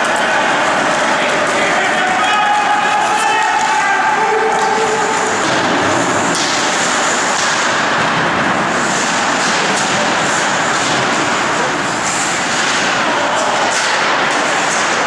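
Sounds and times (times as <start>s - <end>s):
arena noise: 0.0s - 15.0s
hockey sticks and puck clicking: 0.0s - 15.0s
skates on ice: 0.0s - 15.0s.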